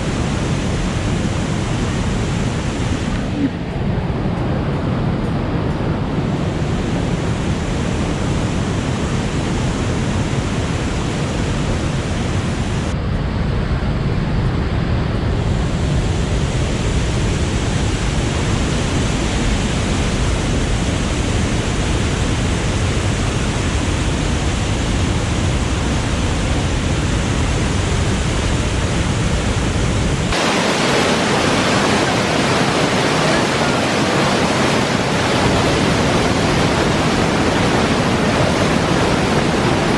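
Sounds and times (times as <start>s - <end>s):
waterfall rushing: 0.0s - 13.0s, 15.0s - 39.9s.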